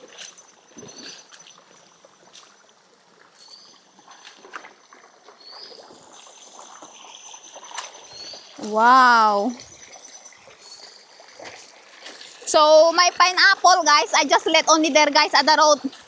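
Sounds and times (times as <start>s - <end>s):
river water trickling: 0.0s - 16.0s
splashes from wading: 0.0s - 16.0s.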